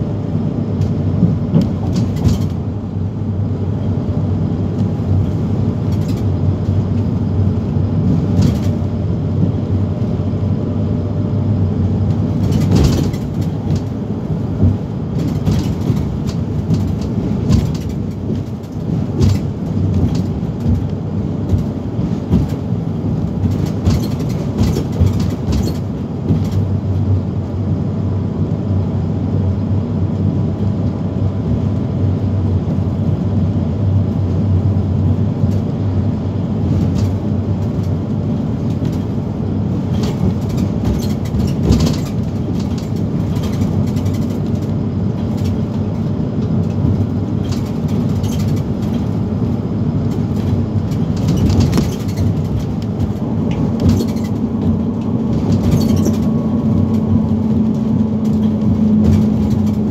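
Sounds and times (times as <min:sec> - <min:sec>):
bus engine hum: 0:00.0 - 0:59.9
road noise: 0:00.0 - 0:59.9.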